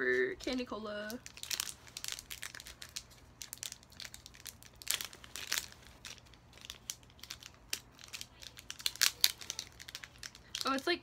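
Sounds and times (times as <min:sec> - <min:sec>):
plastic wrapper crinkling: 0:01.0 - 0:11.0.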